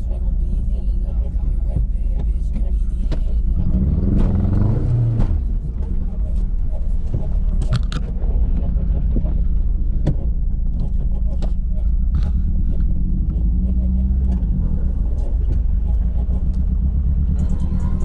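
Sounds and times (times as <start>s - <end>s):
car engine rumbling with misfire: 0.0s - 18.0s.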